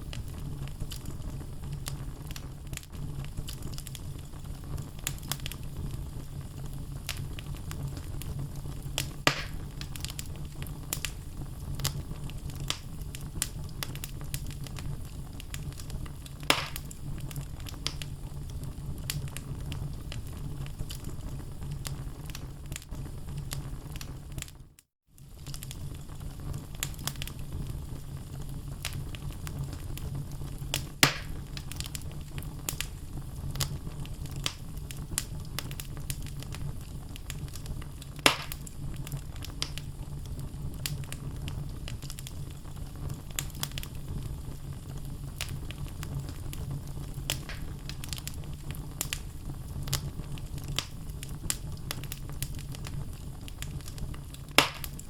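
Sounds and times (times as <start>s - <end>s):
loud fire pops: 0.0s - 24.6s, 25.2s - 55.0s
wood logs crackling in fireplace: 0.0s - 55.0s.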